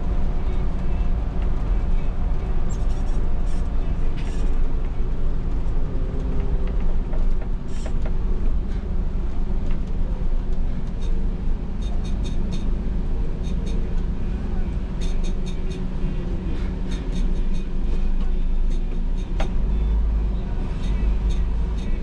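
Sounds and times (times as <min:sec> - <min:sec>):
bus body creaks and rattles: 0:00.0 - 0:22.0
bus diesel engine rumble: 0:00.0 - 0:22.0.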